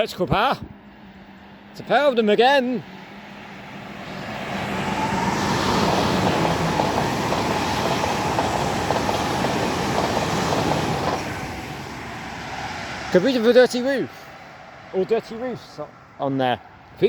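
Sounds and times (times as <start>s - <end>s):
wheels rushing on rail: 0.3s - 17.0s
trains passing at speed: 0.7s - 17.0s.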